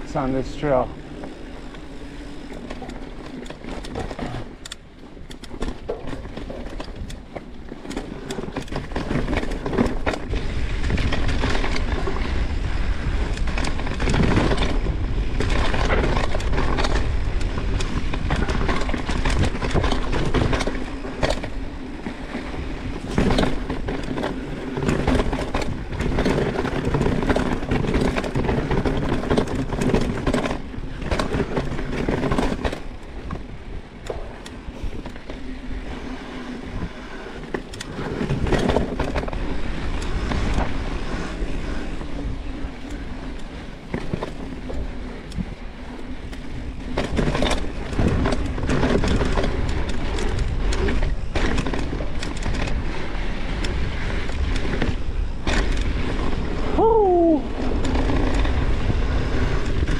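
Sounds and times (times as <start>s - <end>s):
bike rattling and knocking: 0.0s - 59.9s
bike tyres rolling over dirt: 0.0s - 59.9s
wind rush on microphone: 3.9s - 59.9s.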